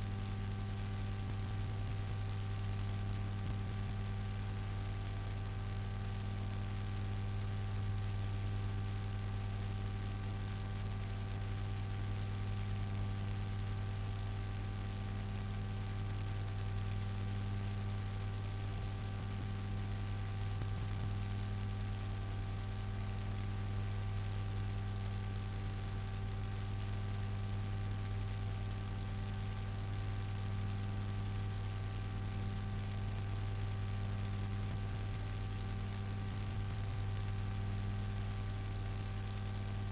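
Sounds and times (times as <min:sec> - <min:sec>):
constant hiss: 0:00.0 - 0:39.9
electrical mains hum: 0:00.0 - 0:39.9.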